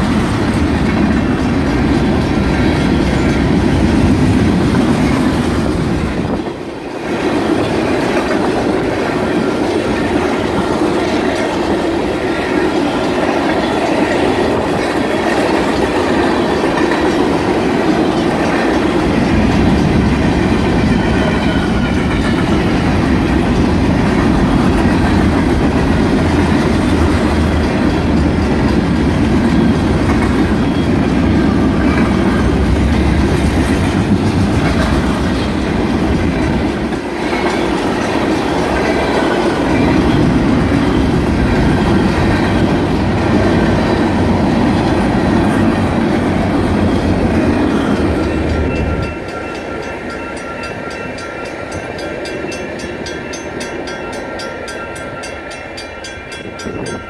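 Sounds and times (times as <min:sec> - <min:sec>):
crossing bell ringing: 0:00.0 - 0:33.4, 0:37.4 - 0:57.0
clickety-clack over rail joints: 0:00.0 - 0:57.0
train wheels rumbling on rails: 0:00.0 - 0:57.0.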